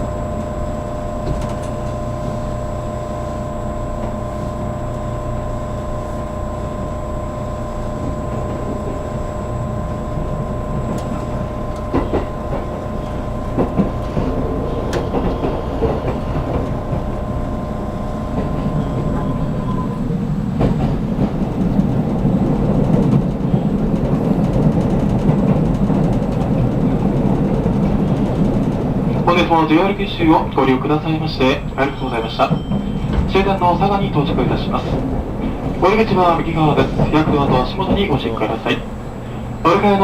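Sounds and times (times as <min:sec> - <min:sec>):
steady tones: 0:00.0 - 0:40.0
train rolling rumble: 0:00.0 - 0:40.0.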